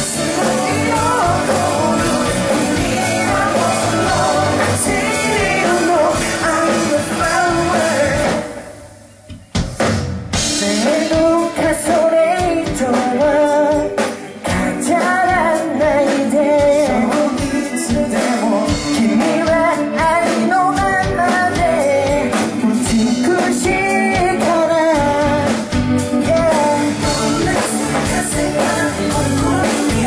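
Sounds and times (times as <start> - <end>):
man singing: 0.0 - 8.6, 10.5 - 30.0
live pop-rock band: 0.0 - 30.0.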